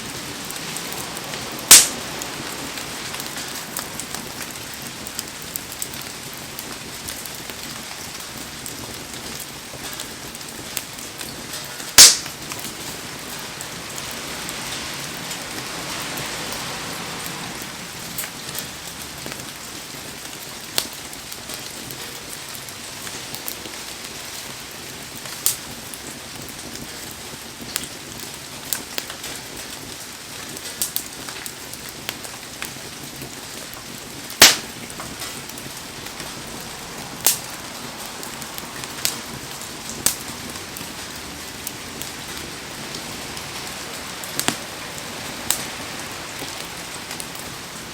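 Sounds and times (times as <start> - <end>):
burning wood popping and cracking: 0.0 - 16.3, 17.6 - 47.9
heavy rain falling: 0.0 - 47.9.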